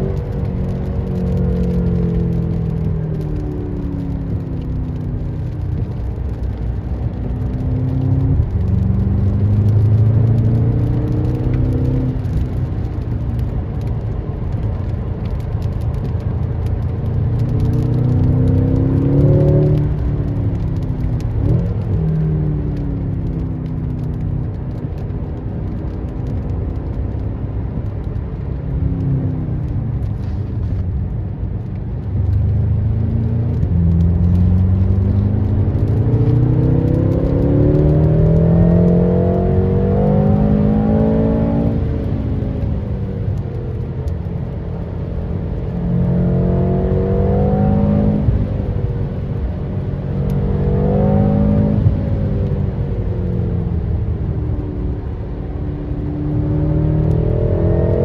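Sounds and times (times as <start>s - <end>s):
car engine revving and shifting gears: 0.0s - 58.0s.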